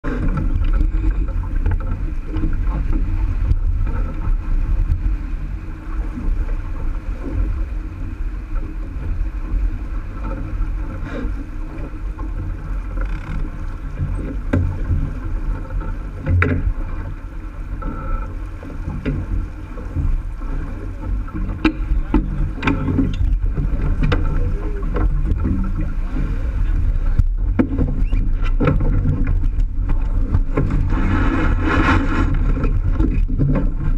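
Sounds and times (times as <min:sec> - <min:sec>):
water rushing along a hull: 0:00.0 - 0:33.9
wind on the microphone: 0:00.0 - 0:33.9.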